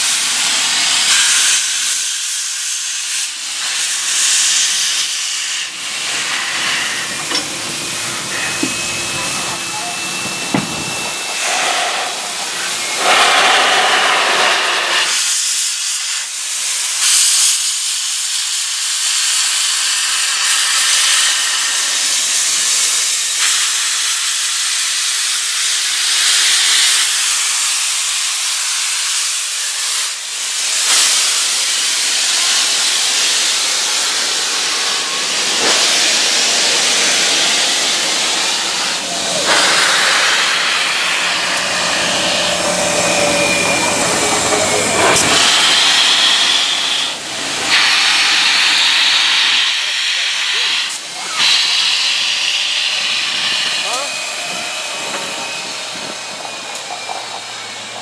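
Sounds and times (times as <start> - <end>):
steam locomotive hissing steam: 0.0 - 58.0.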